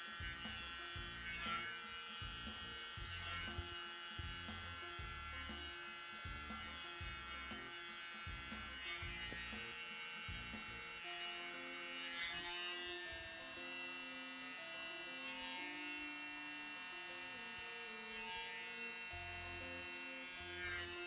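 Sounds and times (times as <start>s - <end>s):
air blower motor buzzing: 0.0s - 21.0s
background music simple melody: 0.0s - 21.0s.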